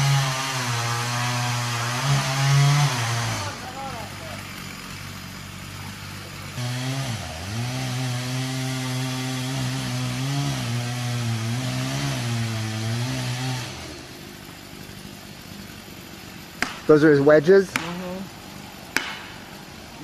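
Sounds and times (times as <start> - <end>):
chainsaw cutting tree trunk: 0.0 - 20.0.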